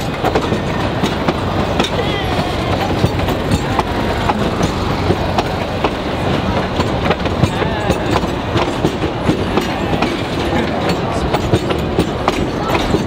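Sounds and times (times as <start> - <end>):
steady rumble of coaches: 0.0 - 13.0
train wheels clicking on track: 0.0 - 13.0.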